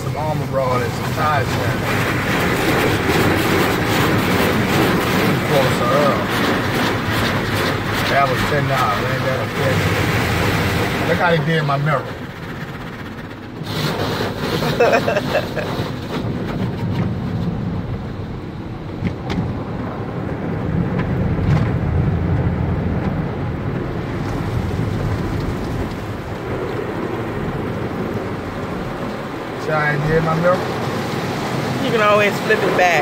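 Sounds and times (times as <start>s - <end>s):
water spray rushing over car: 0.0s - 18.7s, 21.8s - 33.0s.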